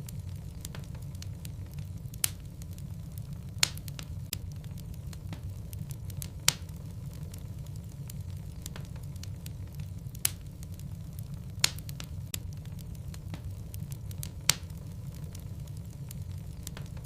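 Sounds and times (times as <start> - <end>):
burning logs popping and snapping: 0.0 - 17.0
low rumble of flames: 0.0 - 17.0.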